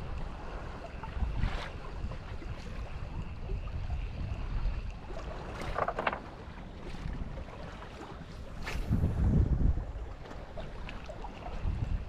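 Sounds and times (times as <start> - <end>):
water lapping against boat: 0.0 - 12.0
wind rumbling on microphone: 0.0 - 12.0.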